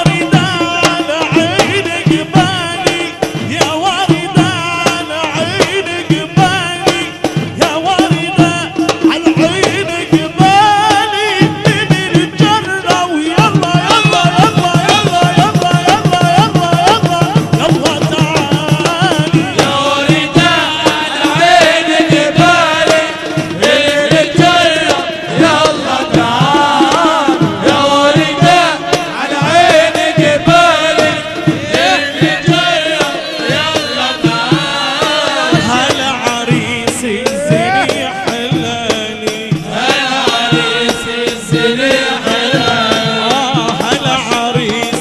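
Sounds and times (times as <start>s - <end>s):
steady drum beat: 0.0s - 45.0s.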